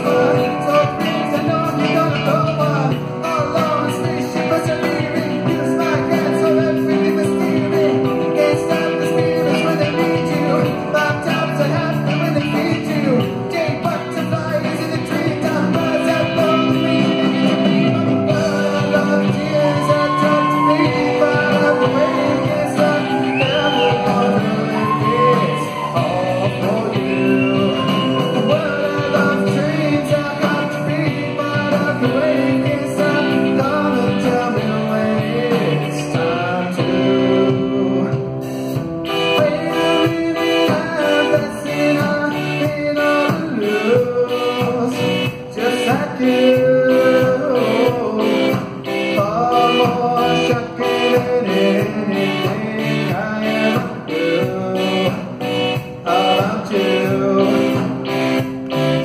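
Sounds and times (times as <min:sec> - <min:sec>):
person singing: 0:00.0 - 0:59.0
rock band playing: 0:00.0 - 0:59.0.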